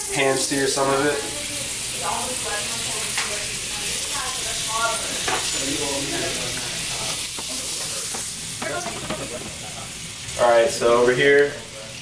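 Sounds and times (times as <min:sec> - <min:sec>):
butter sizzling in oil: 0:00.0 - 0:12.0.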